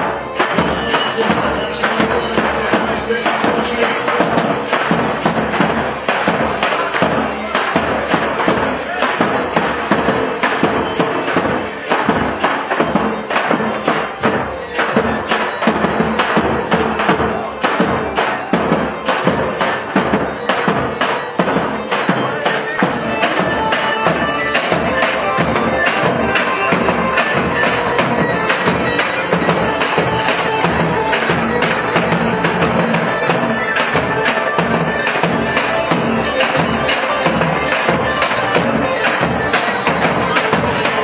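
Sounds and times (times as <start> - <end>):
fast drum beat: 0.0 - 41.0
folk dance music: 0.0 - 41.0.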